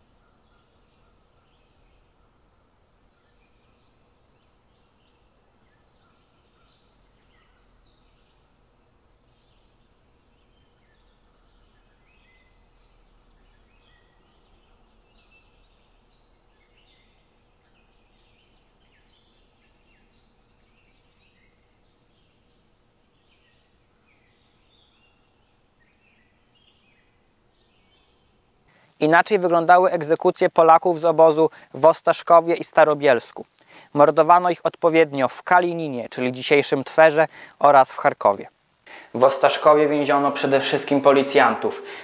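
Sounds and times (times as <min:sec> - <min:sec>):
faint steady hum: 0:00.0 - 0:42.0
songbirds chirping and trilling: 0:00.0 - 0:42.0.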